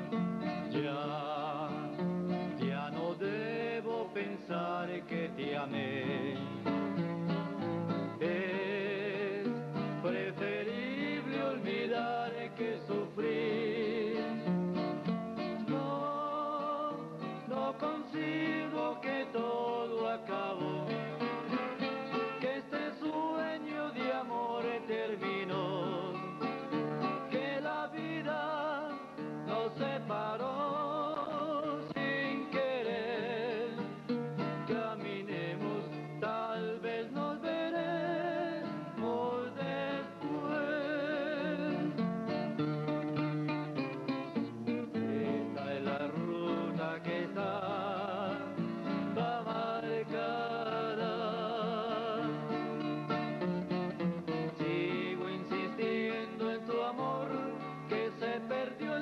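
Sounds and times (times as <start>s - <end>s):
acoustic guitars: 0.0s - 59.0s
men singing a duet: 0.7s - 2.0s, 2.6s - 6.8s, 8.2s - 14.5s, 15.6s - 21.4s, 22.1s - 33.9s, 34.7s - 42.0s, 44.9s - 52.6s, 54.5s - 59.0s.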